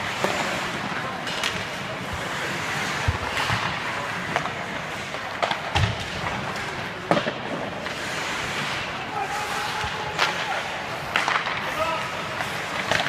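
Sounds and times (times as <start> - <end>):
hockey sticks clacking on puck: 0.0 - 13.0
skates scraping on ice: 0.0 - 13.0.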